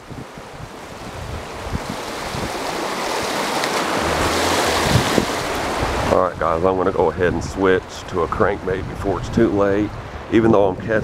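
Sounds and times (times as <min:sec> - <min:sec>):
water rushing over rapids: 0:00.0 - 0:11.0.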